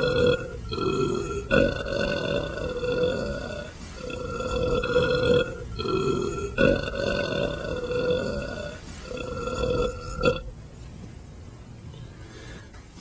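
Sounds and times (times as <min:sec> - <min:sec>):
man belching: 0:00.0 - 0:10.5.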